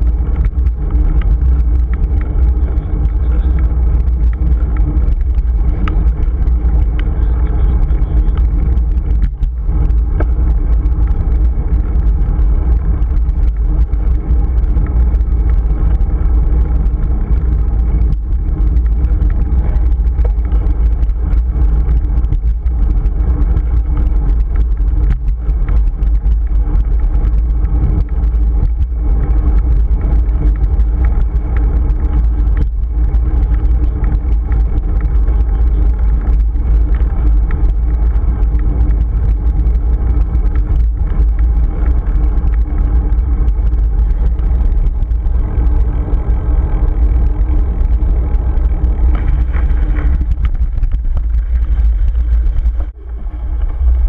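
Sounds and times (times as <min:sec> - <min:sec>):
wind buffeting a microphone: 0:00.0 - 0:54.0.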